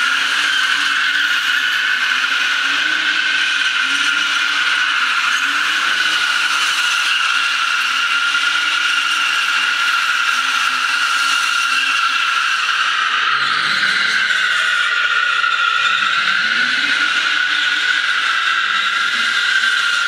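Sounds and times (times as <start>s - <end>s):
tyres squealing on concrete: 0.0s - 20.0s.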